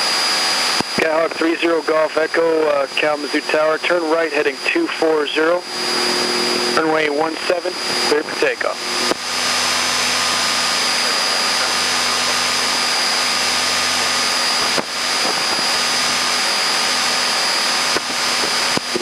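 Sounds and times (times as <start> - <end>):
aircraft cockpit engine hiss and hum: 0.0 - 19.0.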